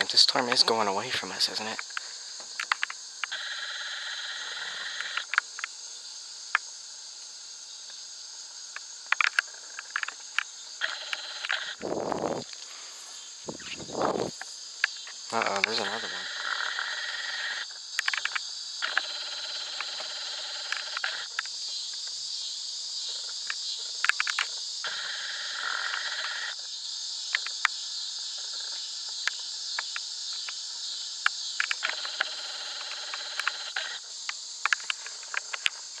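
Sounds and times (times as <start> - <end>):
high-pitched insect chorus: 0.0 - 36.0
lower insect chorus: 0.0 - 36.0.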